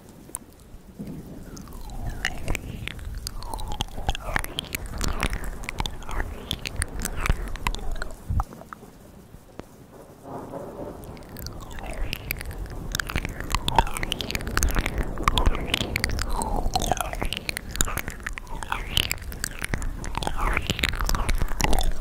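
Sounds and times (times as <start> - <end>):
wet mouth clicks and lip smacks: 0.3 - 8.8, 11.0 - 22.0.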